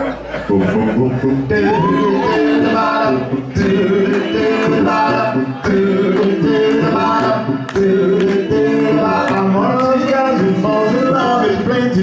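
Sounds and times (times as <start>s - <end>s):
male vocal group singing harmony: 0.5s - 12.0s.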